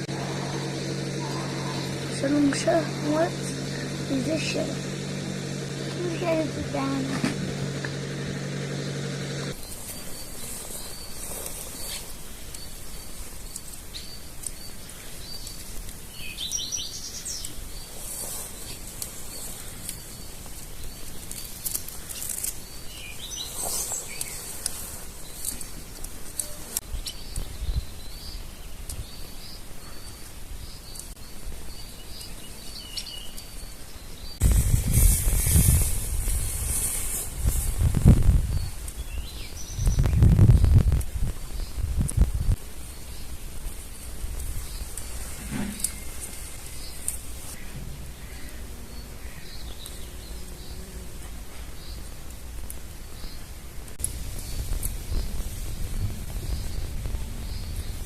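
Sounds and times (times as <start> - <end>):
small birds chirping: 0.0 - 58.0
steady outdoor hiss: 0.0 - 58.0.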